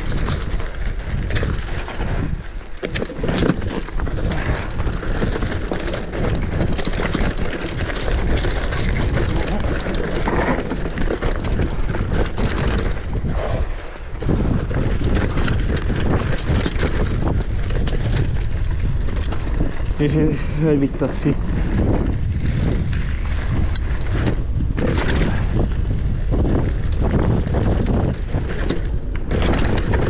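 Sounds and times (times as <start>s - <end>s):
bike clicking and rattling: 0.0s - 30.0s
tyres rolling on dirt and rock: 0.0s - 30.0s
wind buffeting microphone: 0.0s - 30.0s.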